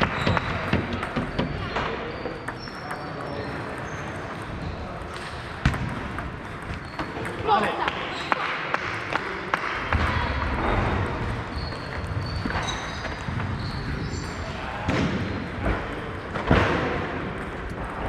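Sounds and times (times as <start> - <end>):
sports hall din: 0.0 - 18.0.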